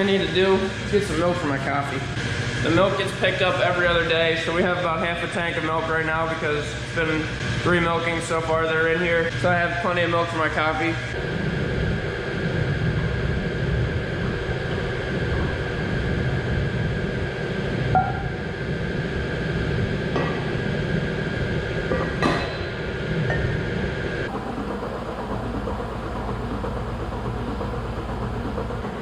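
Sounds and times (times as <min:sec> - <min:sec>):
machinery hum and whine: 0:00.0 - 0:29.0.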